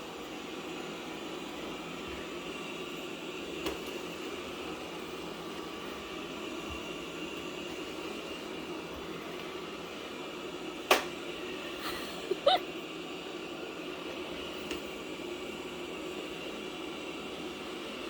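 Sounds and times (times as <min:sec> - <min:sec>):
robot vacuum cleaner humming: 0:00.0 - 0:18.0.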